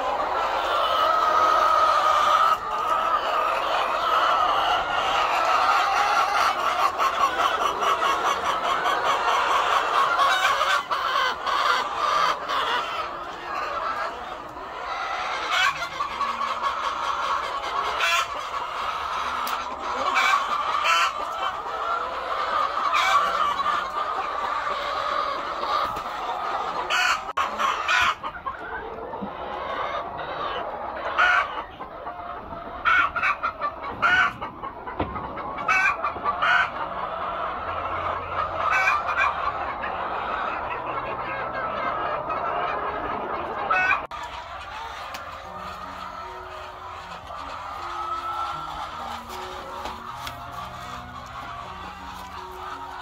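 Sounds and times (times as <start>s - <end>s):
hens clucking: 0.0s - 53.0s.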